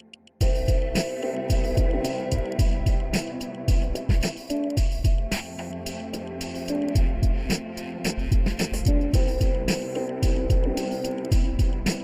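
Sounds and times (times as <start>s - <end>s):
music with drum beat: 0.4s - 12.0s.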